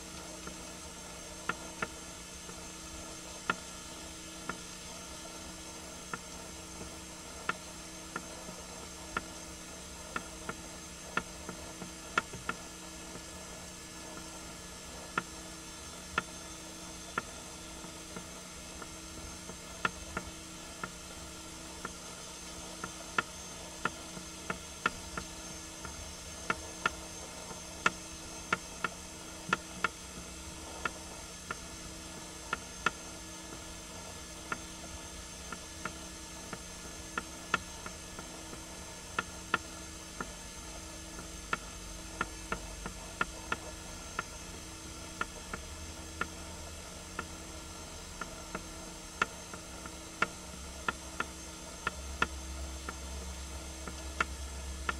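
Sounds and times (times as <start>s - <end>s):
low electrical hum: 0.0s - 54.9s.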